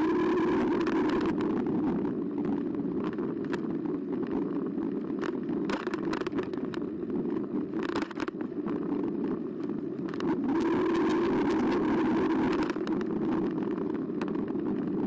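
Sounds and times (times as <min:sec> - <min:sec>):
bike clicks and rattles over bumps: 0:00.0 - 0:15.0
electric bike motor and tyre hum: 0:00.0 - 0:15.0.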